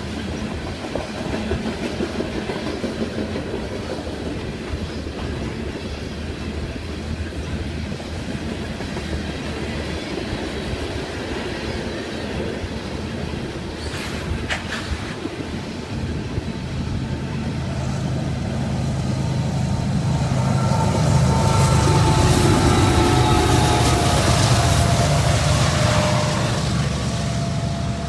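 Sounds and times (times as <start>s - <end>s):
diesel locomotive engine drone: 0.0s - 28.0s
train cars rolling on track: 0.0s - 28.0s.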